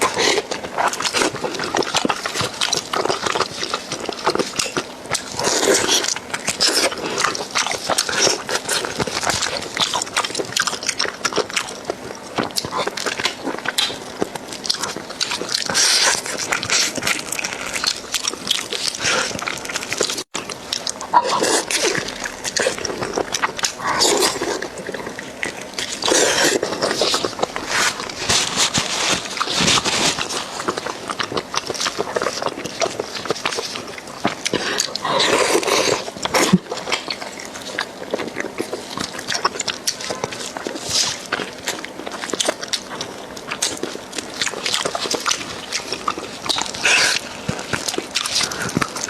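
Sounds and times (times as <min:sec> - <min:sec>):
wet sucking and chewing: 0:00.0 - 0:49.0.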